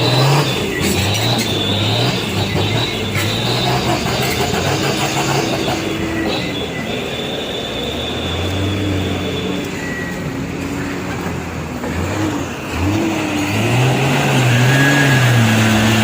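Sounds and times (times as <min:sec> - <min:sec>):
vehicle engine revving: 0:00.0 - 0:07.0, 0:07.8 - 0:16.0.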